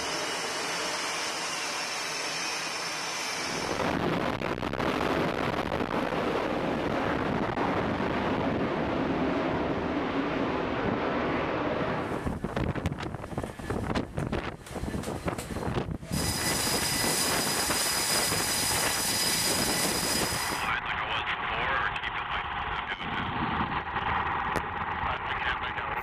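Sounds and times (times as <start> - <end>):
jet engine at full power: 0.0 - 26.0
jet engine hiss and whine: 0.0 - 26.0.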